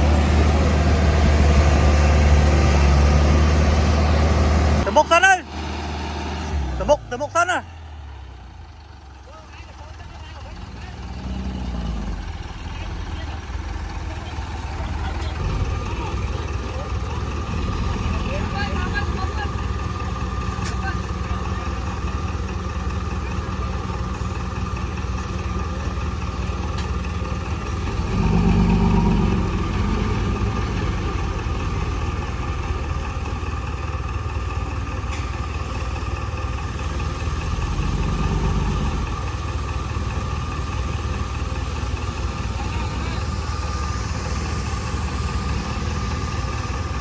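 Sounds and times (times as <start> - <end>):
bulldozer engine running: 0.0 - 47.0.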